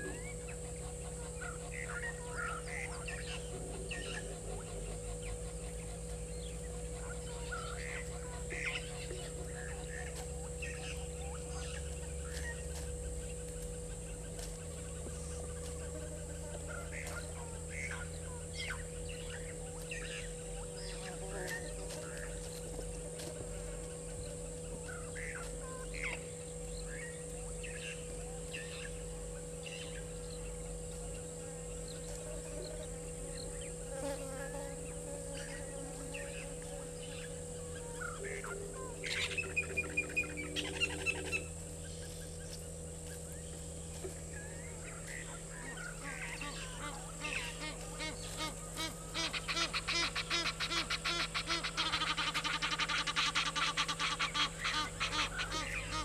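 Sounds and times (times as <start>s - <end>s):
geese calling: 0.0s - 56.0s
low hum: 0.0s - 56.0s.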